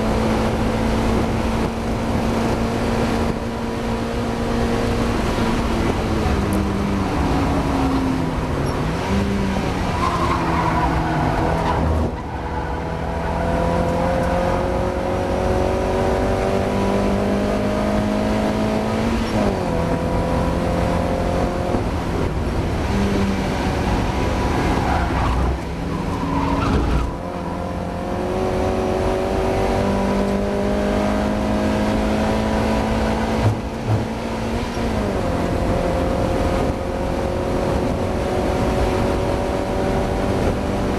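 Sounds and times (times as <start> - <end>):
car engine revving with gear changes: 0.0 - 40.9.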